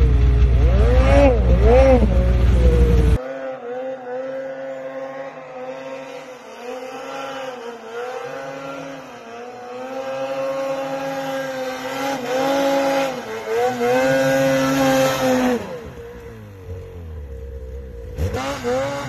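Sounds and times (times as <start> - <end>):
close snowmobile engine: 0.0 - 19.0
distant snowmobile engine: 0.0 - 19.0.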